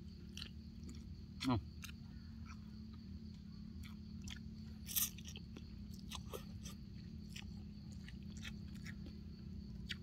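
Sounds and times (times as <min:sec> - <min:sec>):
wet chewing and mouth smacks: 0:00.2 - 0:10.0.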